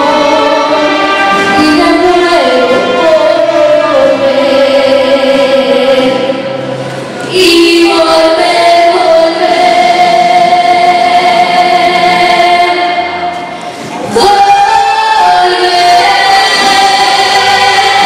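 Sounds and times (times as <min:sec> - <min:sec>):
girl singing into a microphone: 0:00.0 - 0:06.6, 0:07.2 - 0:18.0
group of young voices singing: 0:00.0 - 0:18.0.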